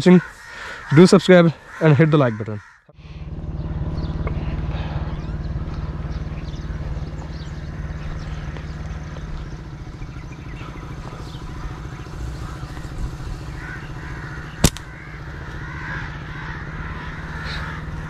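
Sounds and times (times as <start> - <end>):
motorcycle engine running: 2.9 - 18.0.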